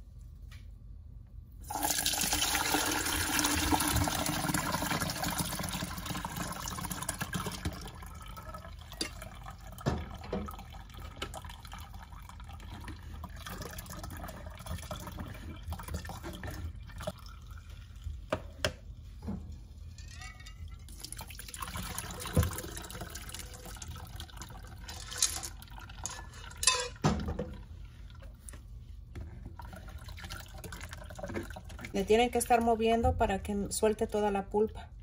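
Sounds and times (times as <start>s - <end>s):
liquid pouring through strainer: 1.7s - 18.4s, 19.8s - 28.7s, 29.4s - 31.9s.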